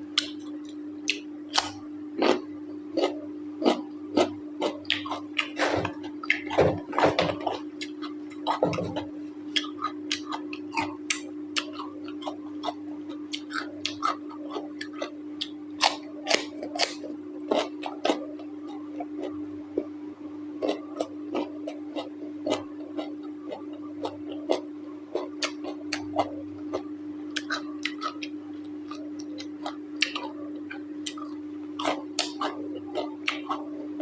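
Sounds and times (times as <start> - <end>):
steady low hum: 0.0 - 34.0
wet chewing and smacking: 0.2 - 6.6, 7.3 - 19.4, 20.6 - 33.7.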